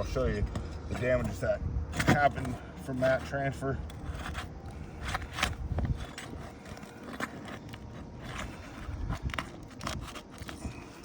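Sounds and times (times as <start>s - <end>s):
pry bar scraping and knocking shingle: 0.0s - 11.0s.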